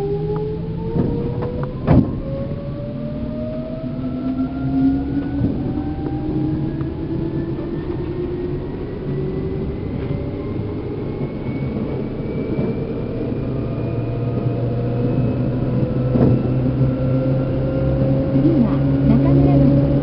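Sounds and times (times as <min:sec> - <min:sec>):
train traction motors whining: 0:00.0 - 0:20.0
wheels rumbling on rail: 0:00.0 - 0:20.0.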